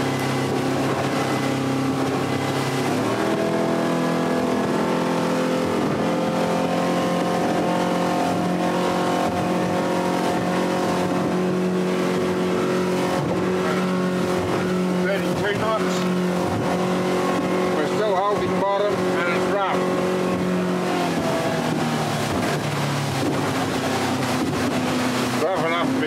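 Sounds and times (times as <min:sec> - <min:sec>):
outboard motor running: 0:00.0 - 0:26.0
rushing wind and water: 0:00.0 - 0:26.0.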